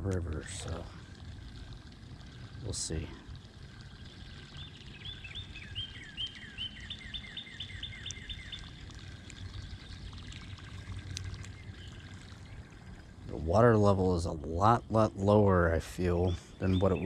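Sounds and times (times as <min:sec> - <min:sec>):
songbird singing: 0:02.3 - 0:17.0.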